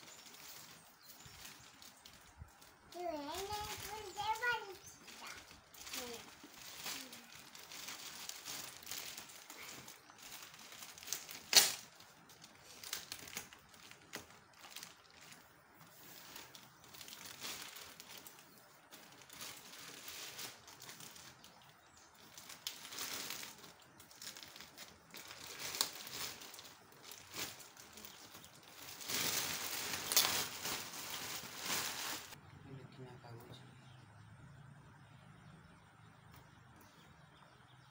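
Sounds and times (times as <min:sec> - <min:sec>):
plastic wrapping crinkling: 0:00.0 - 0:32.4.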